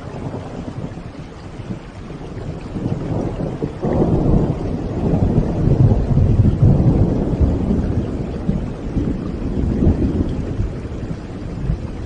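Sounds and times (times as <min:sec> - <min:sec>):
storm background: 0:00.0 - 0:12.0
thunder rumbling: 0:00.0 - 0:12.0.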